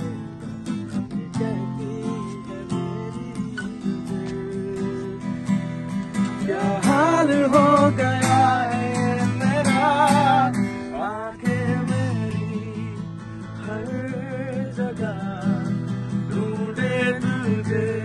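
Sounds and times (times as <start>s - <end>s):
man singing: 0.0s - 5.5s, 6.3s - 18.0s
acoustic guitar strumming: 0.0s - 18.0s.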